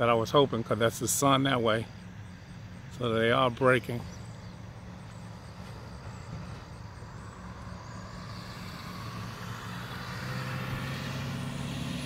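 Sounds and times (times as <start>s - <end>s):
vehicle engine idling: 0.0s - 11.8s
road noise of passing vehicle: 0.0s - 12.0s.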